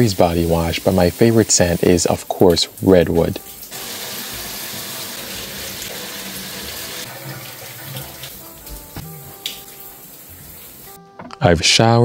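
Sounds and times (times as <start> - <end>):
shower water spraying: 0.0 - 11.0.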